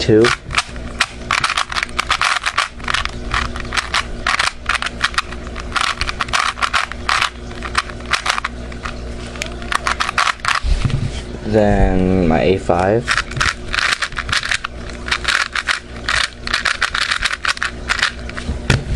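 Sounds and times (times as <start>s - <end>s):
puzzle cube clicking: 0.2s - 10.6s, 13.1s - 18.4s.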